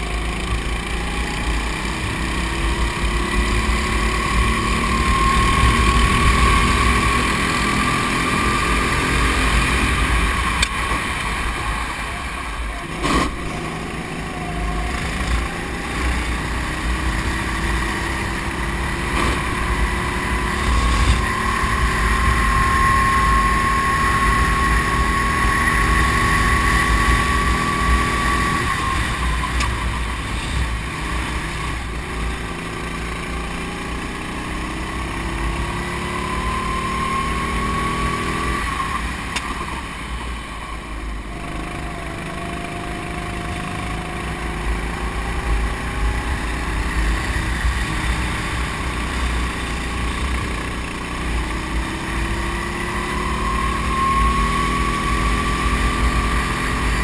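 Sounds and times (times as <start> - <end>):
go-kart engine racing: 0.0 - 57.0
rumble of wind and track: 0.0 - 57.0.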